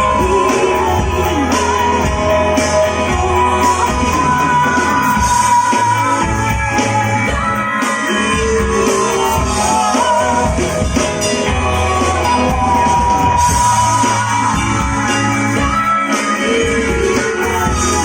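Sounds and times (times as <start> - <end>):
live rock band: 0.0 - 18.0
person singing: 0.0 - 18.0.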